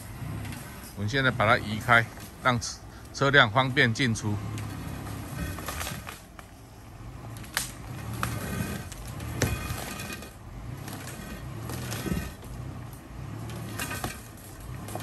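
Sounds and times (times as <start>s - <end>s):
boulder scraping along road: 0.0s - 15.0s
vehicle engine running: 0.0s - 15.0s.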